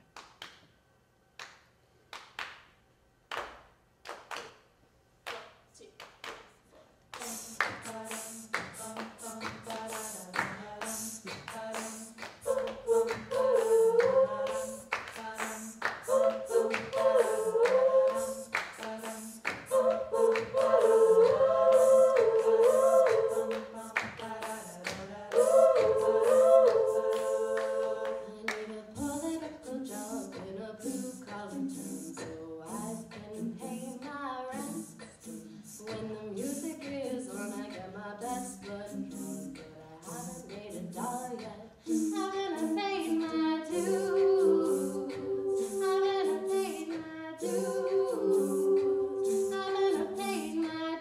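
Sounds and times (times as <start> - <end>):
vocal percussive beat: 5.3 - 51.0
women singing in harmony: 7.2 - 51.0.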